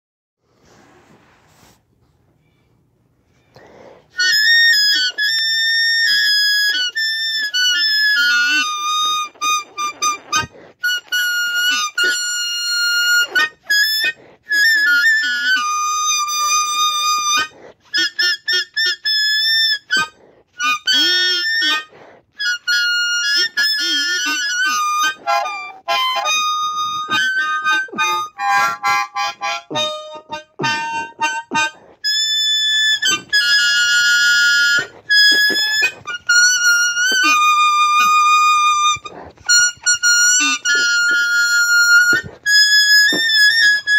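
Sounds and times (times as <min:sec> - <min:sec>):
blues harmonica: 0:03.3 - 0:43.9.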